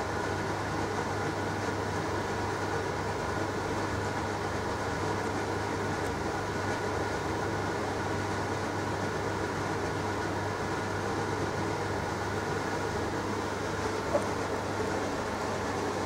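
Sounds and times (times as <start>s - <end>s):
fan air rushing: 0.0s - 16.0s
low electrical hum: 0.0s - 16.0s.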